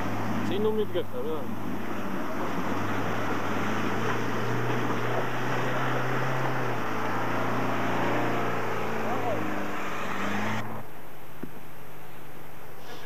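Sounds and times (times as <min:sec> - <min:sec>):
water splashing and rushing: 0:00.0 - 0:10.7
off-road vehicle engine running: 0:00.0 - 0:11.0.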